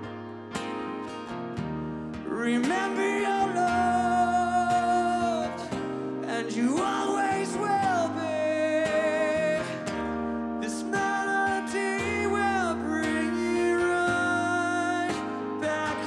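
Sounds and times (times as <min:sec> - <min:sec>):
strummed acoustic guitar: 0:00.0 - 0:16.0
man singing: 0:02.2 - 0:16.0.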